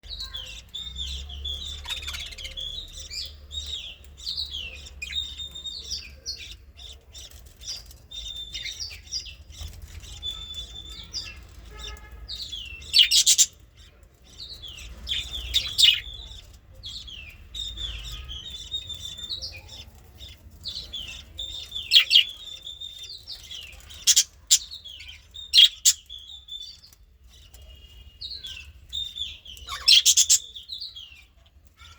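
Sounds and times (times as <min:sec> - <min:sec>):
budgerigars chirping: 0:00.1 - 0:31.3.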